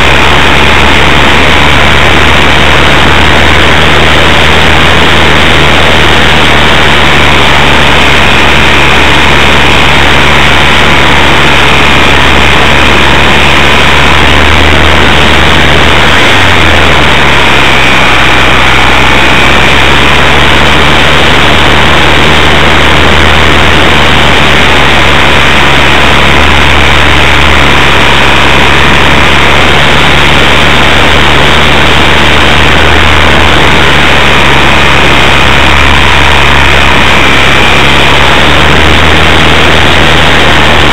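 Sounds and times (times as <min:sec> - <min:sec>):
faint steady whine: 0:00.0 - 0:40.9
model airplane motor and propeller: 0:00.0 - 0:40.9
rush of prop wash and wind: 0:00.0 - 0:40.9.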